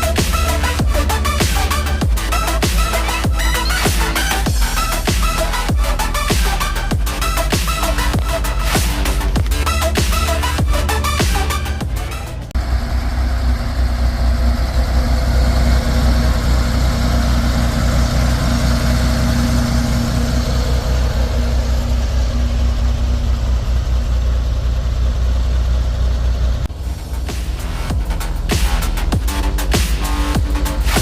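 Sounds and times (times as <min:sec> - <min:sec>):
flat-six engine idling: 0:00.0 - 0:31.0.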